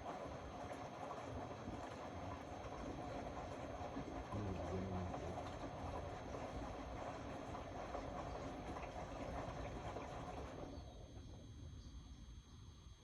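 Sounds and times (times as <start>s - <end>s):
washing machine drum sloshing: 0.0s - 11.4s.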